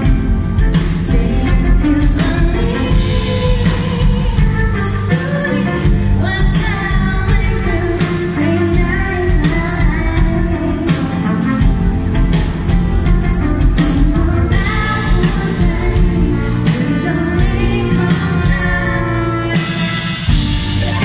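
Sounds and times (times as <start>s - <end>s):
woman singing: 0.0s - 12.3s, 13.0s - 20.0s
electric bass: 0.0s - 21.0s.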